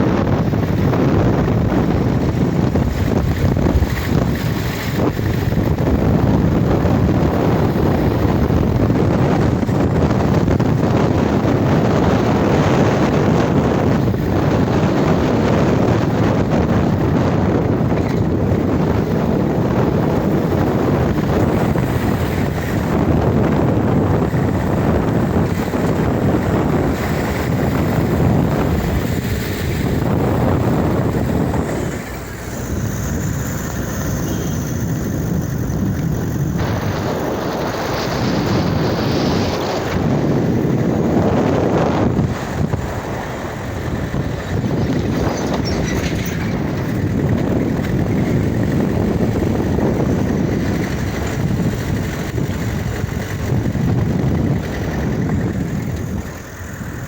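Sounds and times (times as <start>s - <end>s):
steady rushing noise: 0.0s - 57.0s
wind buffeting microphone: 0.0s - 57.0s.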